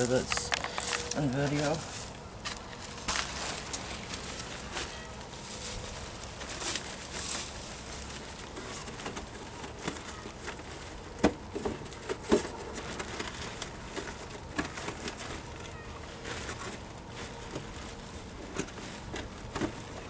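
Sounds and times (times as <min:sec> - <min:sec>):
rustles: 0:00.0 - 0:20.0.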